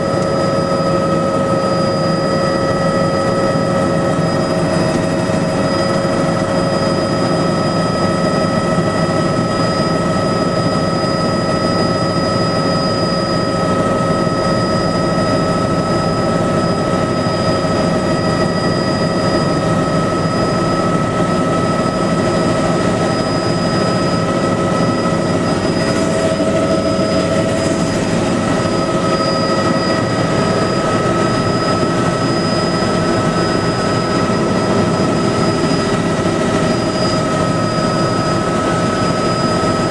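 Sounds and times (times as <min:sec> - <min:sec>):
helicopter engine and rotor drone: 0:00.0 - 0:39.9
high-pitched whining tones: 0:00.0 - 0:39.9.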